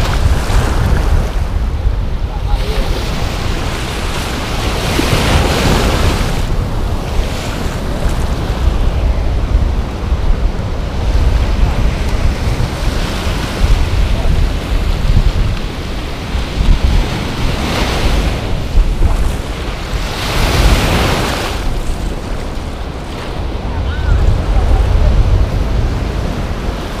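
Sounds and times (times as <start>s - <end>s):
ocean surf breaking on beach: 0.0s - 27.0s
wind buffeting microphone: 0.0s - 27.0s.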